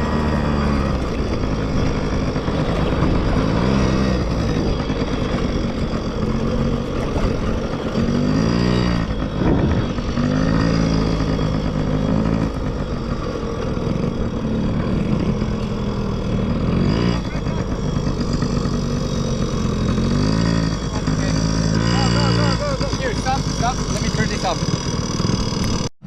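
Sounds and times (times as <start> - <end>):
dirt bike engines revving: 0.0 - 25.9.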